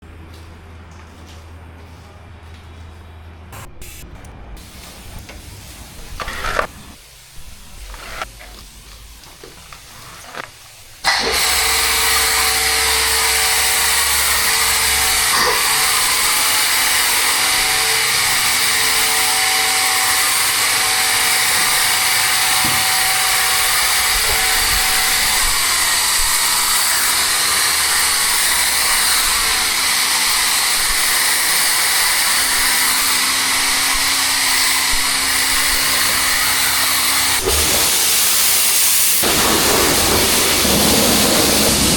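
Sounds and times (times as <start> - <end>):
pressure washer motor hum: 3.6 - 41.9
water spray hissing: 4.6 - 41.9.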